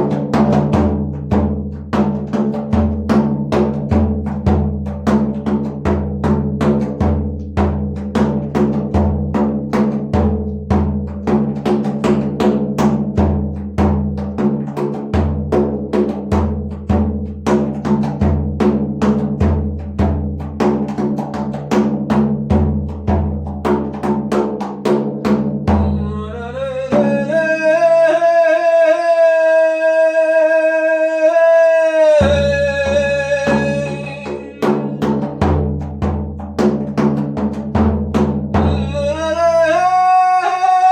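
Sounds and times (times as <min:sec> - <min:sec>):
quick steady drumbeat: 0:00.0 - 0:26.3, 0:32.2 - 0:40.0.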